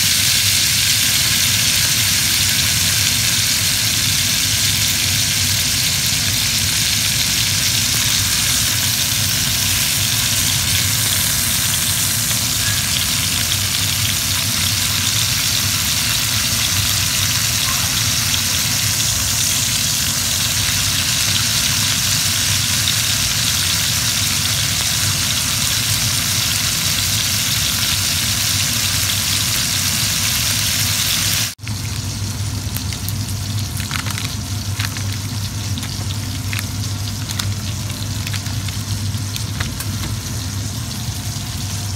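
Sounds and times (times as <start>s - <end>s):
steak sizzling in a skillet: 0.0s - 41.9s.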